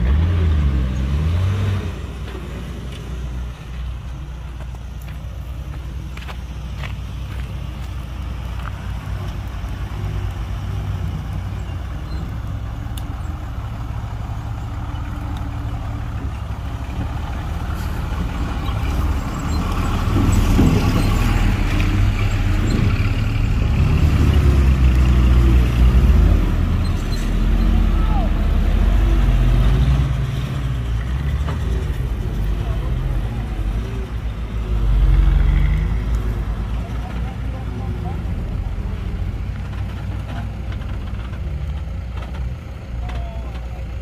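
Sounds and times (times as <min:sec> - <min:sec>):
heavy diesel engine rumbling: 0:00.0 - 0:44.0.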